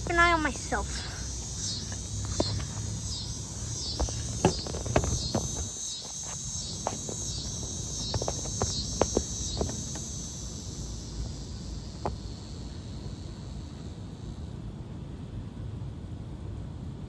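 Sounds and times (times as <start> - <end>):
insects buzzing: 0.0 - 14.8.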